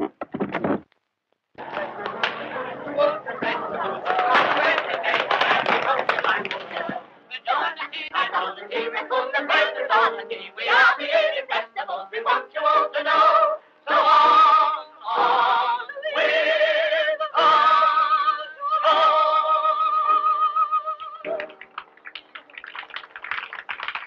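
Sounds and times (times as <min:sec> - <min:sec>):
men and women singing with vibrato: 0:01.6 - 0:21.3.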